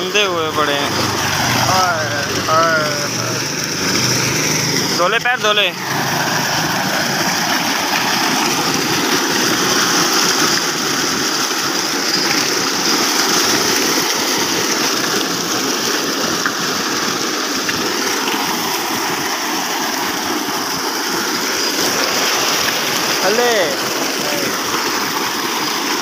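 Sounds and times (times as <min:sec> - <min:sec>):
water gushing into tank: 0:00.0 - 0:26.0.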